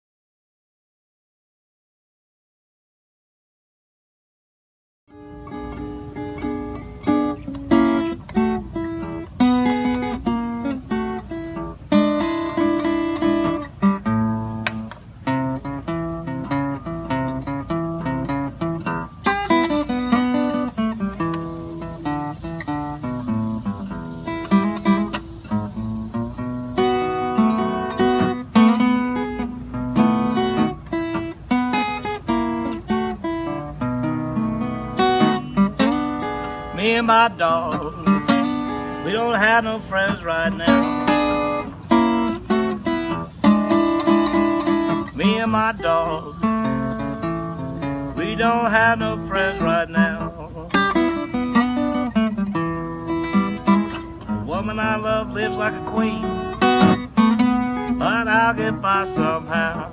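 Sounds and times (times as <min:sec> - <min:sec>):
acoustic guitar blues: 0:05.1 - 0:59.9.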